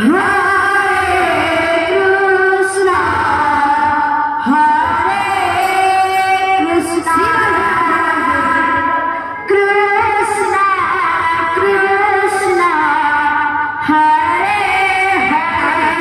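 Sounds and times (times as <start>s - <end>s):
women singing devotional song: 0.0s - 16.0s.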